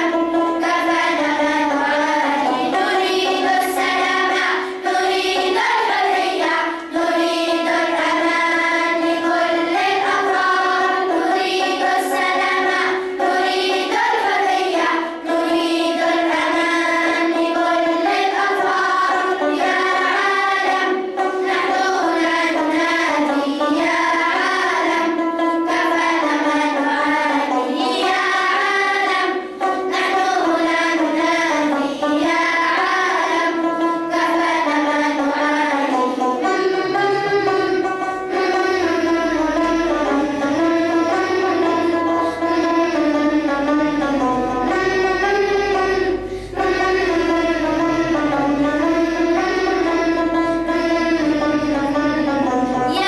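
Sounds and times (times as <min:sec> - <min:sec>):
children's choir singing: 0:00.0 - 0:53.0.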